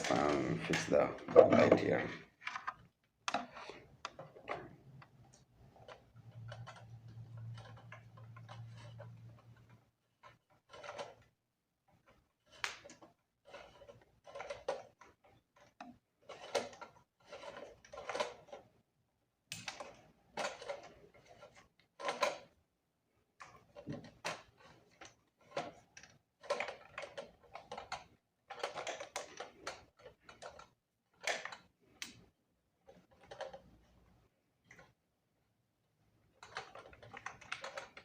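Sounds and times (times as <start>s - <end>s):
plastic parts clicking and rattling: 0.0s - 22.6s, 23.3s - 35.0s, 36.2s - 38.0s.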